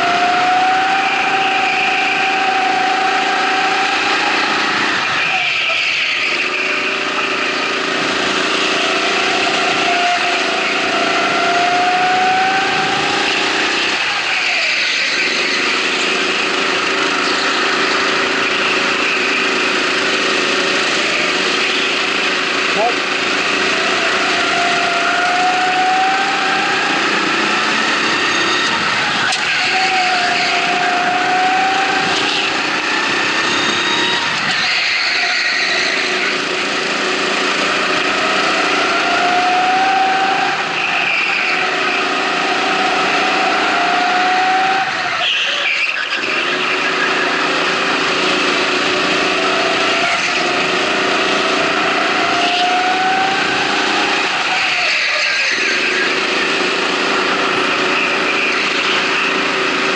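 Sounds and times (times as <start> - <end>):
racing kart motor: 0.0 - 59.9
wind and road rush: 0.0 - 59.9.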